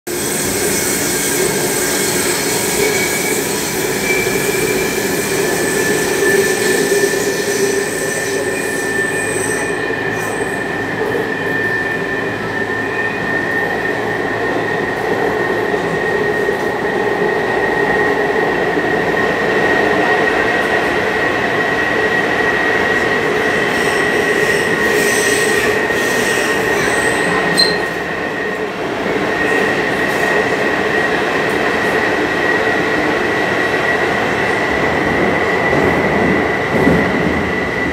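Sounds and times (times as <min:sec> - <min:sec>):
train wheels rumbling on track: 0:00.1 - 0:37.9.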